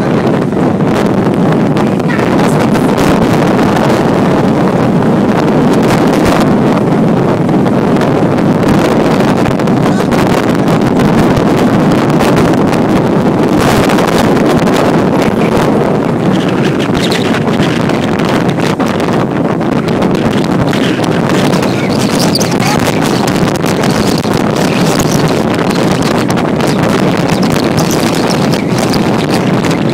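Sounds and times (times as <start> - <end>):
storm wind buffeting microphone: 0.0 - 29.9.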